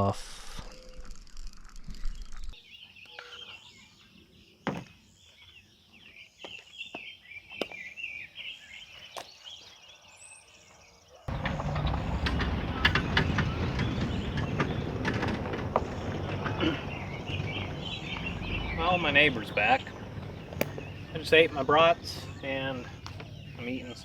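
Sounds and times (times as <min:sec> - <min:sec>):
birds chirping and singing: 0:02.0 - 0:24.0.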